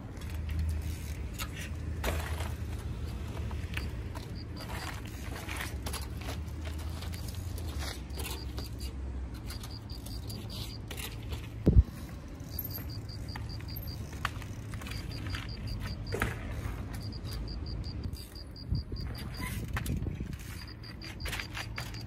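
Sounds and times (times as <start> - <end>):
bicycle rattling and clicking: 0.0 - 22.0.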